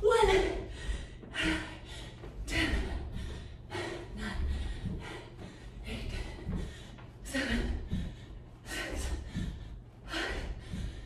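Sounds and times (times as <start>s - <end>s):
woman breathing hard: 0.0s - 11.0s
footsteps jogging on carpet: 0.7s - 11.0s.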